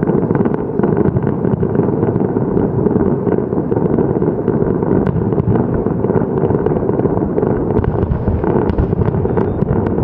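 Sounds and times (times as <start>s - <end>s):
fireworks popping and crackling: 0.0s - 10.0s.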